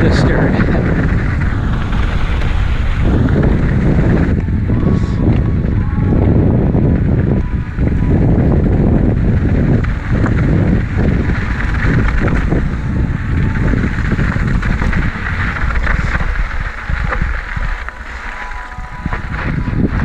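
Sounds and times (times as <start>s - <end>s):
bike clicks and rattles: 0.0s - 20.0s
bike tyre noise: 0.0s - 20.0s
wind buffeting microphone: 0.0s - 20.0s.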